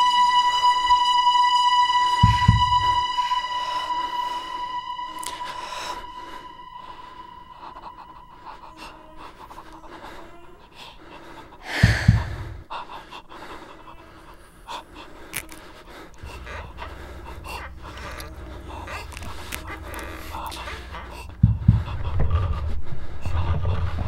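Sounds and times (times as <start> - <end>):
low steady hum: 0.0 - 24.0
person panting heavily: 3.6 - 24.0.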